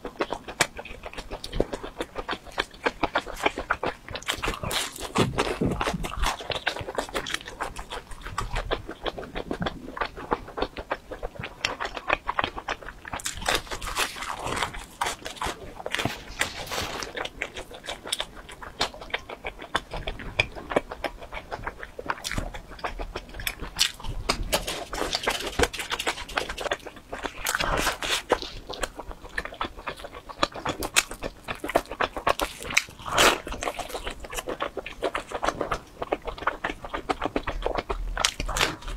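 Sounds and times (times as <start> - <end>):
chewing and biting pizza: 0.0 - 38.9.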